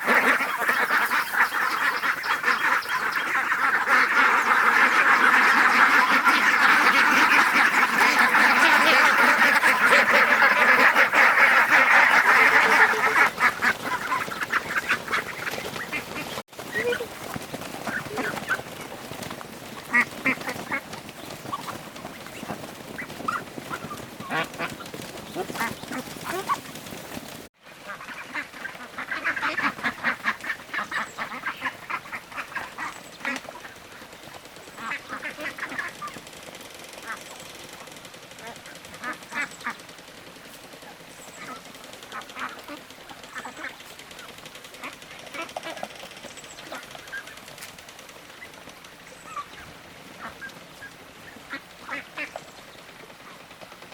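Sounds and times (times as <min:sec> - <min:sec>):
ducks quacking: 0:00.0 - 0:36.2, 0:38.4 - 0:39.9, 0:40.8 - 0:52.4.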